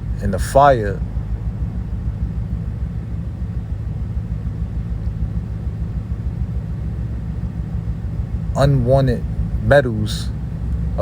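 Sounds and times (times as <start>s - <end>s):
low hum: 0.0s - 11.0s
steady low rumble: 0.0s - 11.0s.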